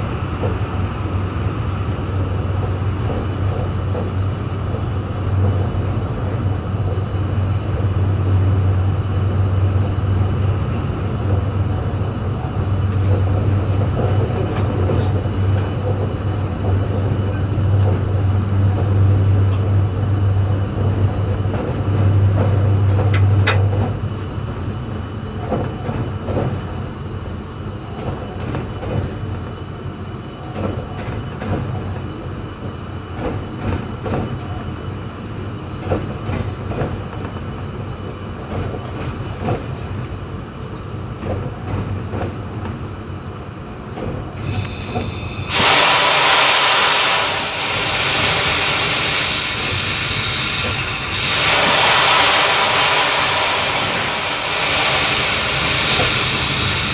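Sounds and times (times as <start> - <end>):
diesel locomotive engine droning: 0.0 - 56.9.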